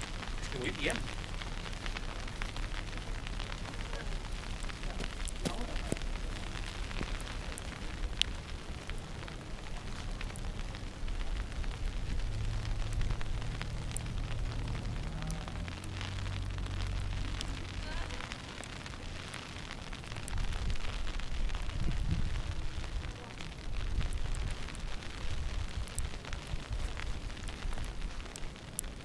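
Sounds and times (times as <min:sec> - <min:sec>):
low rumble: 0:00.0 - 0:28.2
steady crackling noise: 0:00.0 - 0:29.0.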